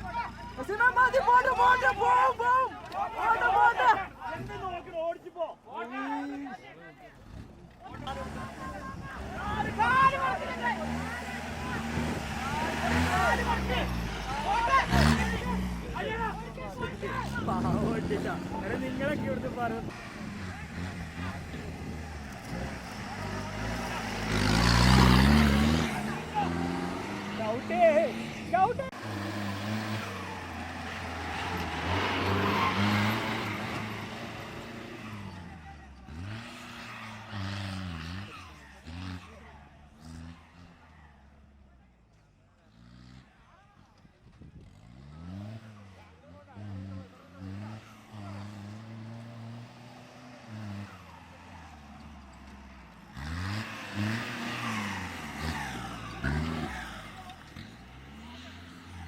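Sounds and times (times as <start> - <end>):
engine revving: 7.1 - 41.7, 42.6 - 43.5, 44.4 - 59.0.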